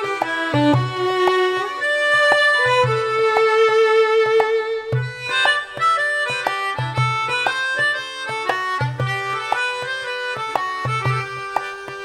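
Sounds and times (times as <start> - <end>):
melodica: 0.0 - 12.0
violin: 0.0 - 12.0.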